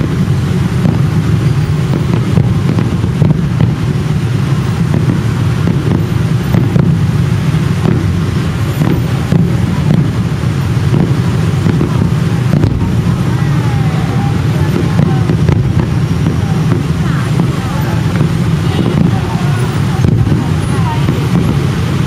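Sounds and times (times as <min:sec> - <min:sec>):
fireworks bangs and pops: 0:00.0 - 0:22.0
low rumble: 0:00.0 - 0:22.0.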